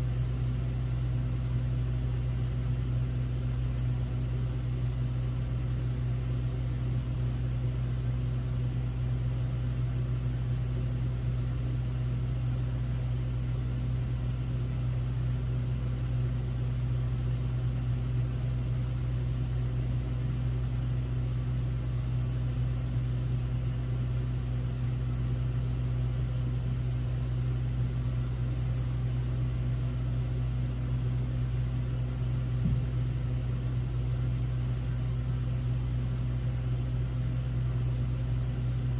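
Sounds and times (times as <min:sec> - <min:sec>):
air conditioner humming: 0:00.0 - 0:38.9.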